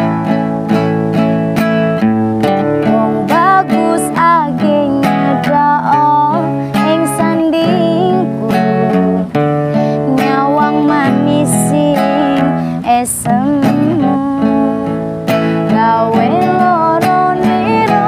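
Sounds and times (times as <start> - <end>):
acoustic guitar strumming: 0.0 - 18.0
sliding guitar melody: 0.0 - 18.0.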